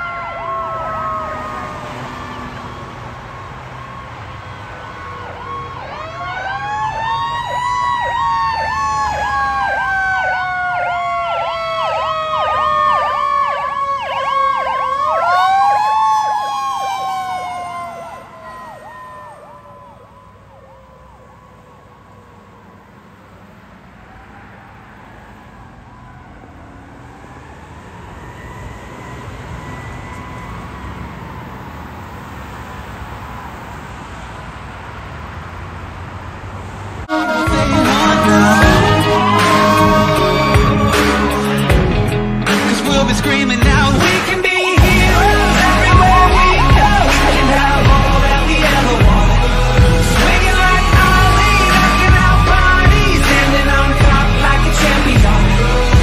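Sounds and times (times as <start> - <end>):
electronic siren yelping: 0.0 - 21.6, 24.2 - 31.4, 37.1 - 41.8, 43.9 - 55.2.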